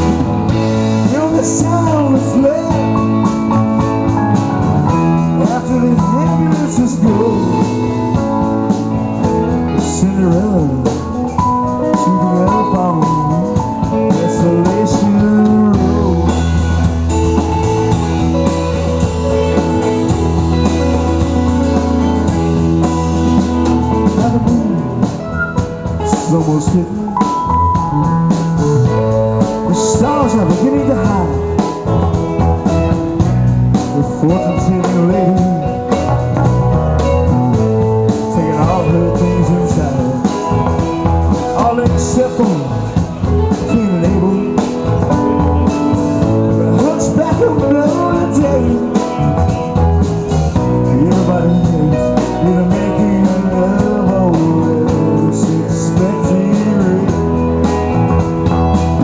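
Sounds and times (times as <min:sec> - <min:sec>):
lead guitar bending notes: 0:00.0 - 0:59.0
live rock band playing: 0:00.0 - 0:59.0.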